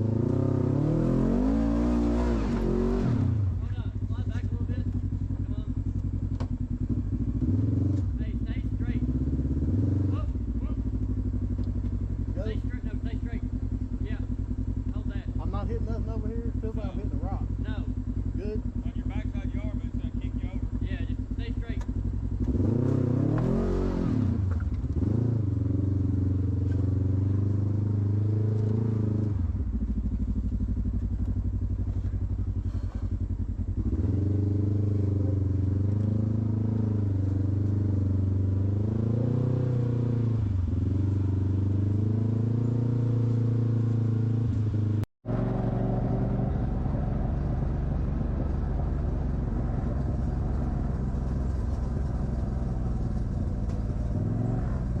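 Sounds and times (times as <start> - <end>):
off-road engine revving under load: 0.0 - 55.0.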